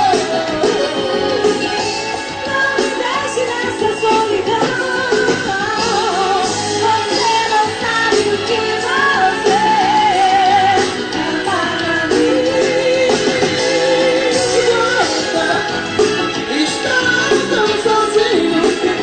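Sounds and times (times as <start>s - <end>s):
lead singer singing: 0.0s - 19.0s
live band music: 0.0s - 19.0s.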